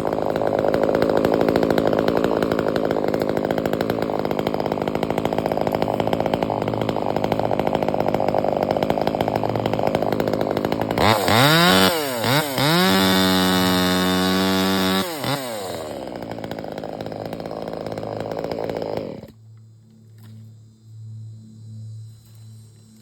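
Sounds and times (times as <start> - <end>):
chainsaw idling and revving: 0.0 - 19.4.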